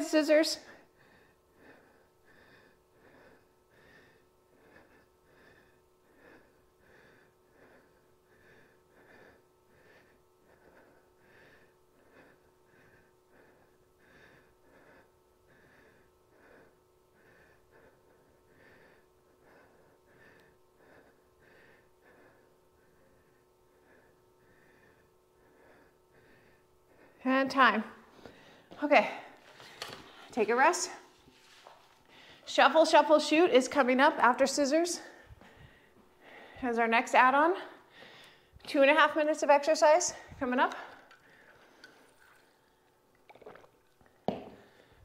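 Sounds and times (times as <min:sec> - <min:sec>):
faint steady hum: 0:00.0 - 0:45.0
woman breathing heavily: 0:00.6 - 0:43.2, 0:44.0 - 0:45.0.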